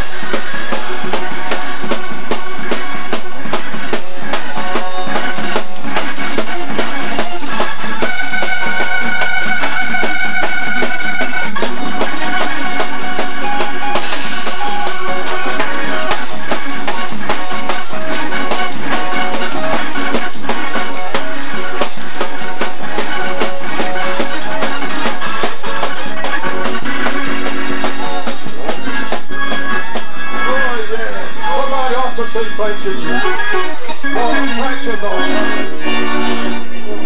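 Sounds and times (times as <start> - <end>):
drum kit fast beat: 0.0 - 30.6
organ holding chords: 0.0 - 37.0.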